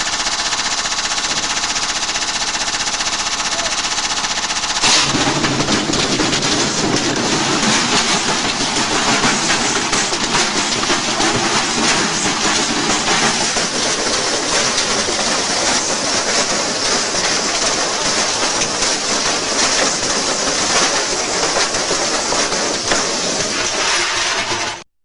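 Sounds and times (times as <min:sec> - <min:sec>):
brick clattering in washing machine: 0:04.8 - 0:24.8.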